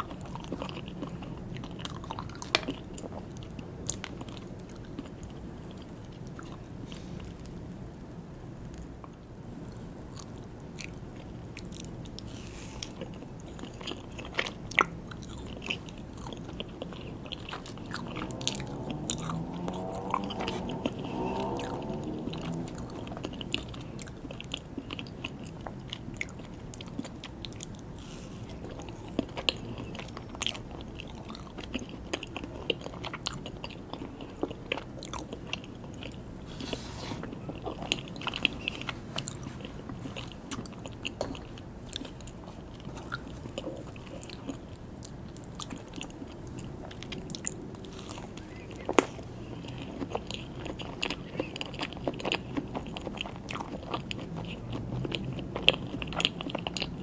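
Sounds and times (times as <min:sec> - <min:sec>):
chewing and biting cake: 0:00.0 - 0:07.6, 0:09.7 - 0:57.0.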